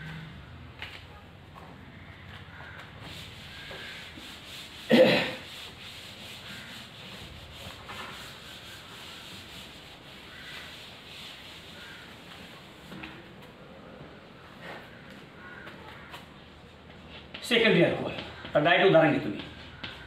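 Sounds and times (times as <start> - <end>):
wiping a blackboard: 2.2 - 13.5, 14.8 - 20.0.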